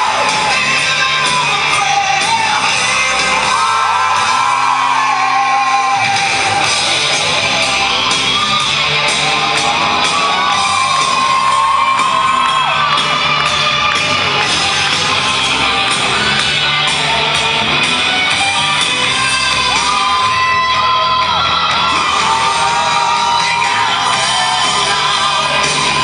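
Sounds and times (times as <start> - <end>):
loud rock music: 0.0 - 26.0.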